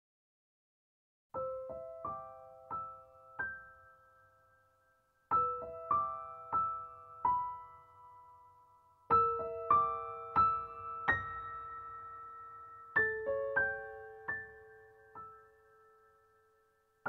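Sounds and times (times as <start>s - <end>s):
gentle piano melody: 1.3s - 17.0s.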